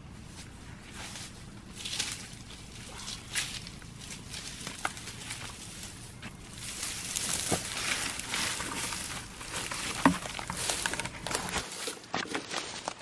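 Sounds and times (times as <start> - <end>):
footsteps crunching dry leaves and twigs: 0.0 - 13.0.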